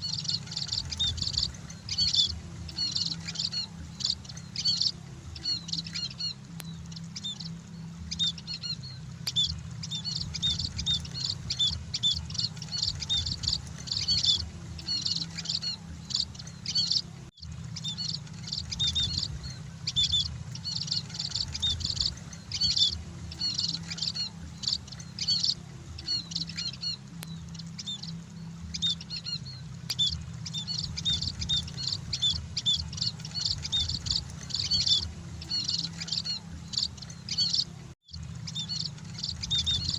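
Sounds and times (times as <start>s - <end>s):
flock of birds chirping: 0.0s - 39.9s
low hum: 0.0s - 39.9s.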